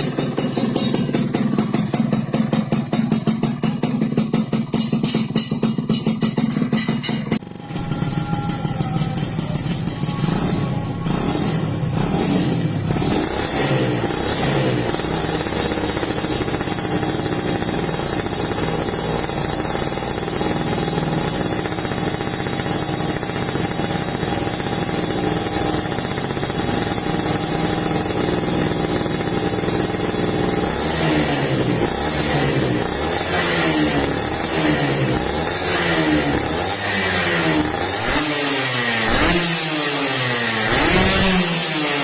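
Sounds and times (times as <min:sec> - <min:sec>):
two-stroke engine revving: 0:00.0 - 0:42.0.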